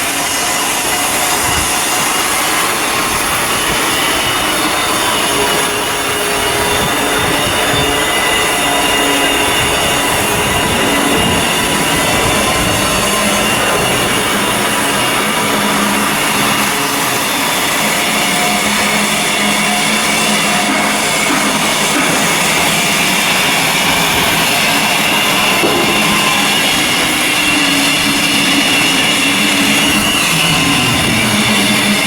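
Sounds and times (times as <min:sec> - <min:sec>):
faint whining tones: 0:00.0 - 0:32.0
heavy machinery running: 0:00.0 - 0:32.0.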